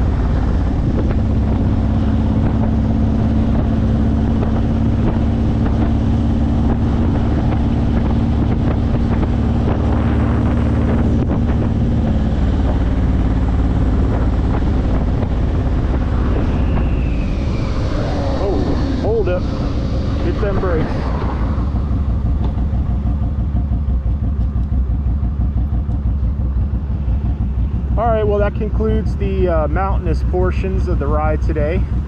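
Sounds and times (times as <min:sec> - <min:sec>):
motorcycle engine riding: 0:00.0 - 0:32.0
wind buffeting microphone: 0:00.0 - 0:32.0.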